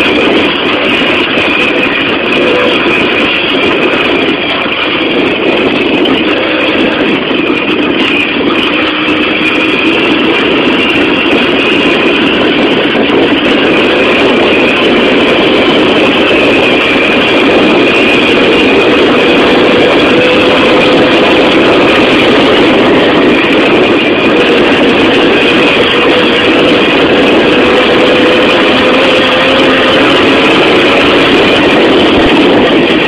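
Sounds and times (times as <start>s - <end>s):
faint high whine: 0.0s - 33.0s
moped engine running: 0.0s - 33.0s.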